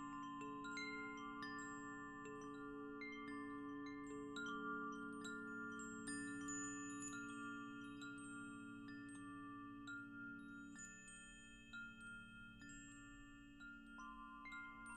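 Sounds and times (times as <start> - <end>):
wind chimes ringing: 0.0 - 14.9.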